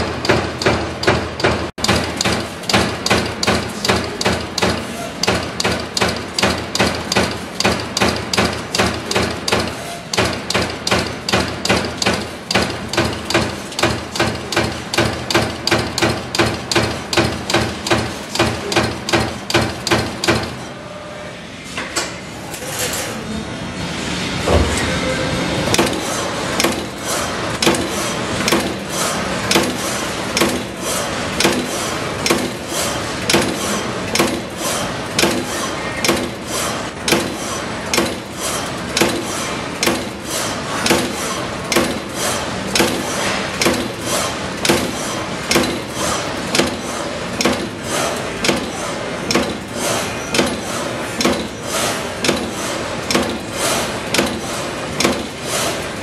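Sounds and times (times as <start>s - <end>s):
punch press striking sheet metal: 0.0s - 20.8s, 25.7s - 56.0s
machine running noise: 0.0s - 56.0s.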